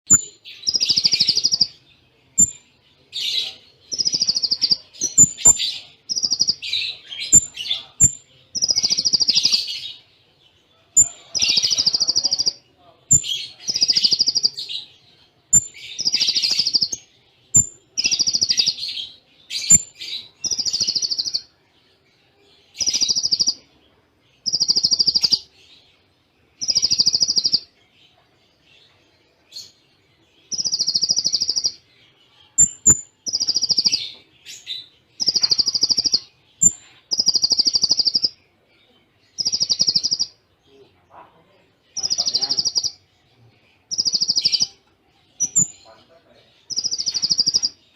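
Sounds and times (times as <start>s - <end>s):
bird trilling song: 0.1s - 47.9s.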